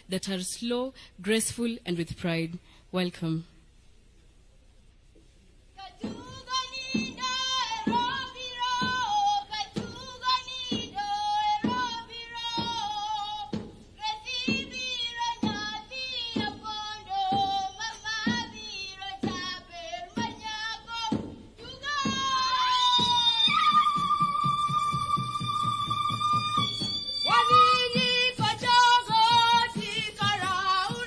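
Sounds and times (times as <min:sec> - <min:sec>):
girls singing: 0:05.8 - 0:31.0
steady drum beat: 0:06.0 - 0:31.0.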